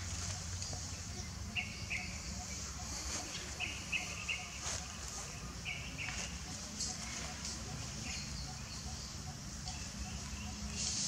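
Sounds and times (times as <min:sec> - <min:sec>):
bird chirping: 0:00.0 - 0:11.0
steady high hiss: 0:00.0 - 0:11.0.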